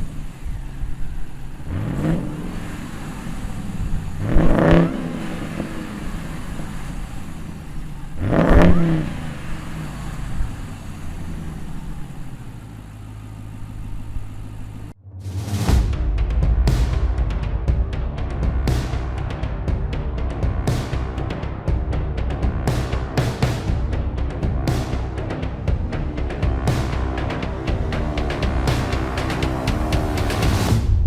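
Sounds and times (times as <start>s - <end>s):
truck engine idling and revving: 0.0s - 31.0s.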